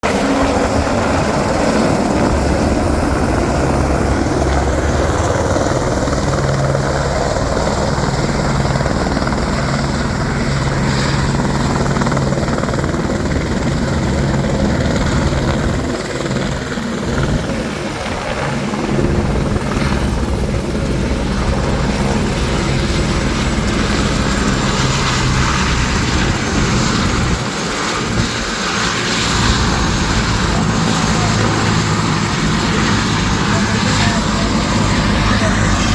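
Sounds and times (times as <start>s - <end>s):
helicopter rotor and engine: 0.0s - 35.9s.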